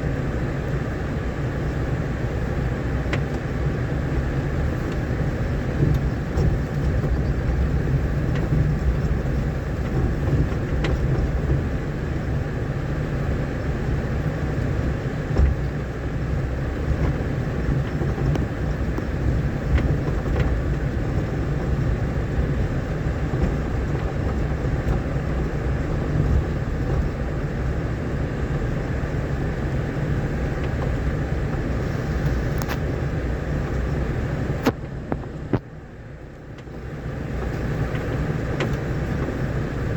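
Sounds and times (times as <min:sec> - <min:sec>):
vehicle rumbling on dirt road: 0:00.0 - 0:39.9.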